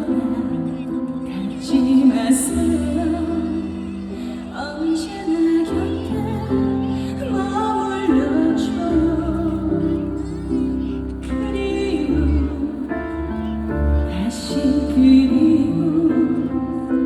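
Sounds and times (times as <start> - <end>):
woman singing a slow ballad: 0.0 - 17.0.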